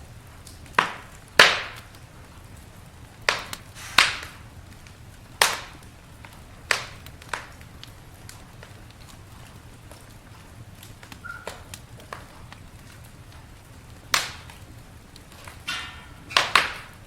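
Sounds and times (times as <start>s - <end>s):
wood fire crackling: 0.0s - 17.0s
loud sharp pops: 0.3s - 17.0s.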